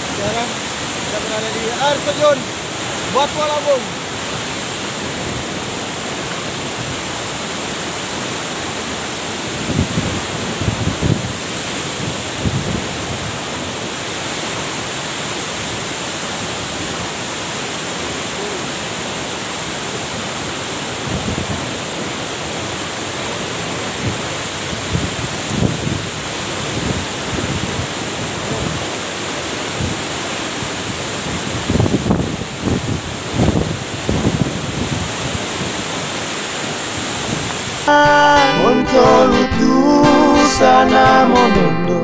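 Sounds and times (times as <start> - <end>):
waterfall pouring onto rocks: 0.0 - 37.9.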